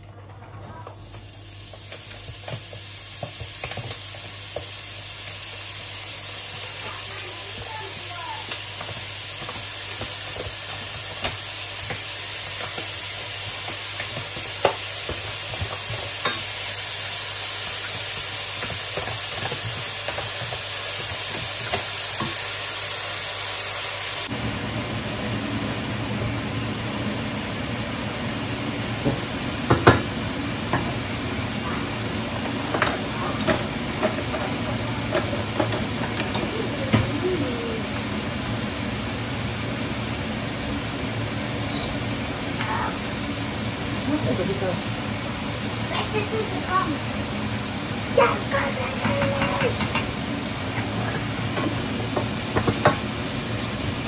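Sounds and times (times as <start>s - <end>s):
cooking sizzling hiss: 0.7s - 54.0s.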